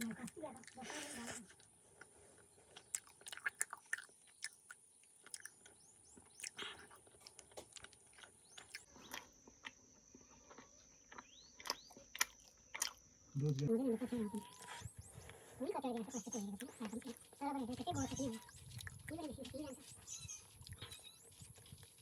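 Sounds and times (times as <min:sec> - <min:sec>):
wet sticky chewing: 0:00.0 - 0:09.8, 0:10.4 - 0:13.8, 0:14.4 - 0:22.0.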